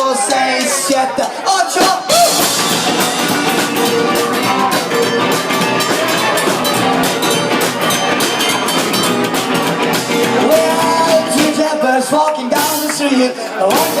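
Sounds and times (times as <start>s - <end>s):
rock and roll band playing: 0.0s - 14.0s
drum kit steady beat: 0.1s - 14.0s.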